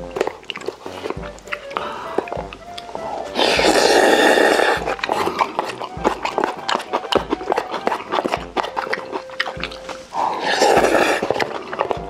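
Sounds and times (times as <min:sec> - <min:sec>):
loud slurp: 0:00.0 - 0:12.0
wet chewing: 0:00.0 - 0:12.0.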